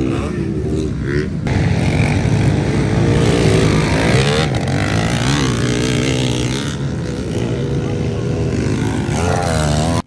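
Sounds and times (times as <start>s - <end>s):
pit bike engines revving: 0.0s - 10.0s.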